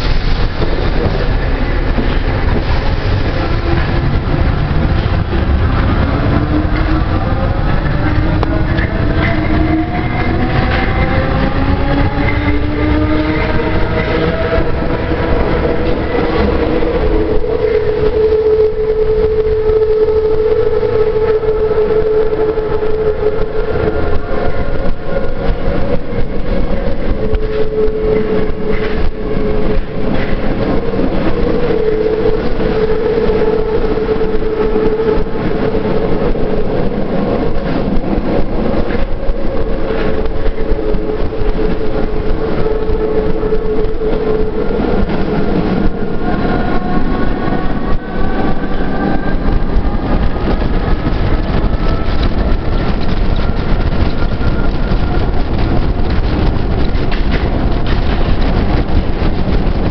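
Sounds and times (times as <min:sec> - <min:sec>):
train wheels rumbling on rail: 0:00.0 - 0:59.9
train whine: 0:00.0 - 0:59.9.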